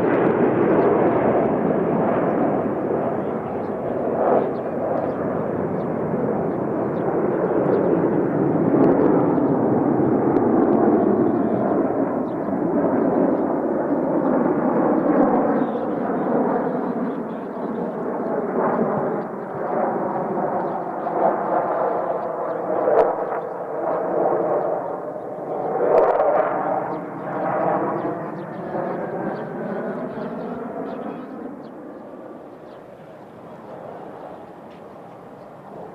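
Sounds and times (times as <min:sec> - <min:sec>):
jet engines roaring overhead: 0:00.0 - 0:35.9.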